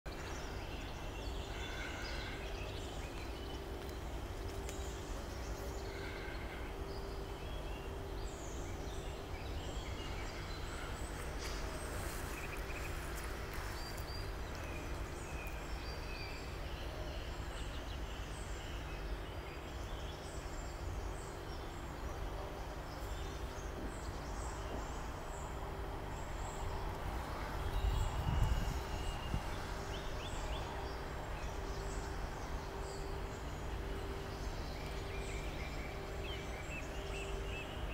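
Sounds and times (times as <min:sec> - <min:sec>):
faint continuous hum: 0:00.1 - 0:37.9.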